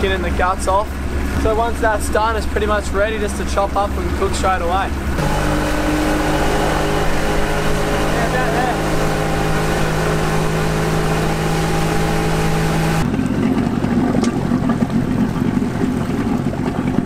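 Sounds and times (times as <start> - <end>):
outboard motor running: 0.0 - 17.0
water rushing: 0.0 - 17.0.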